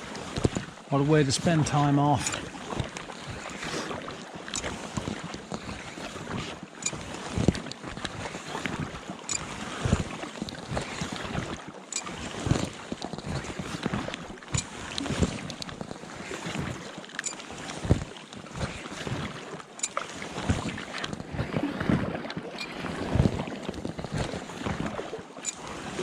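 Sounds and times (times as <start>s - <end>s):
paddle strokes in water: 0.0s - 26.0s.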